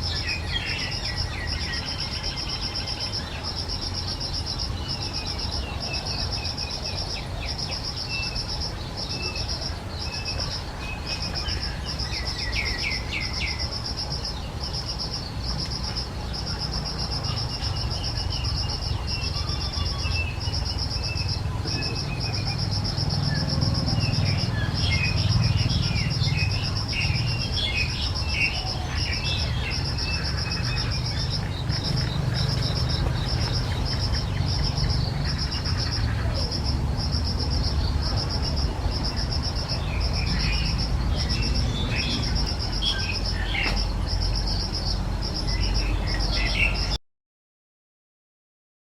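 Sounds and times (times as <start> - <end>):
insect trilling: 0.0 - 46.8
birds chirping: 0.0 - 47.0.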